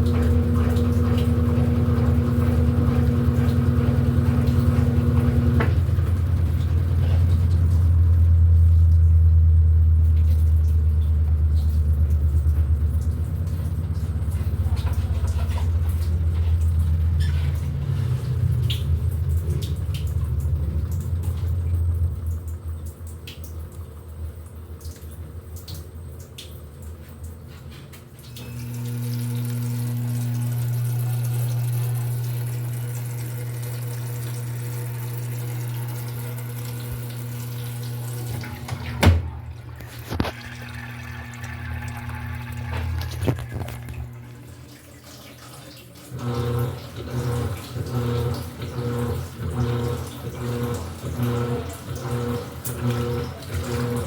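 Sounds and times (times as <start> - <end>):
washing machine hum: 0.0 - 54.0
water running into washing machine: 0.0 - 54.0.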